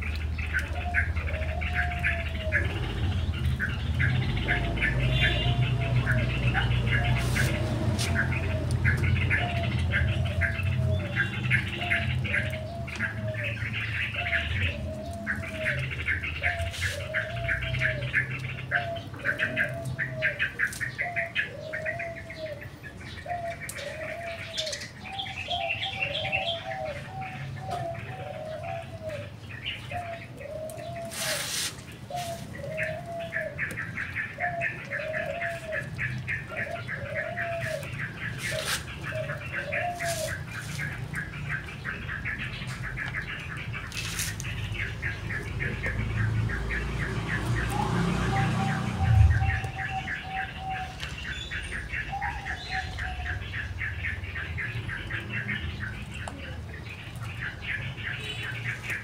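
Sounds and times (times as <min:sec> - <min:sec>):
rapid chattering bird notes: 0:00.0 - 0:59.0.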